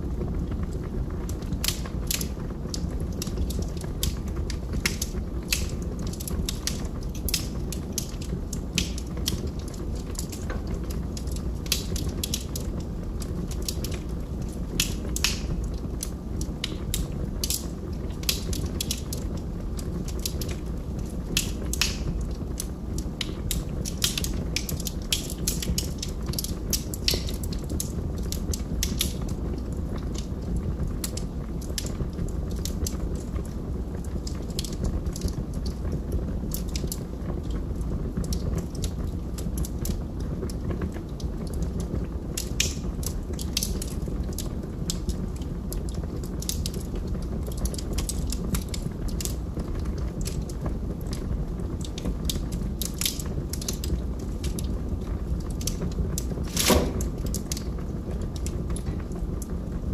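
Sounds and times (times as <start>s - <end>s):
log fire crackling: 0.0s - 59.9s
low rumble of burning wood: 0.0s - 59.9s.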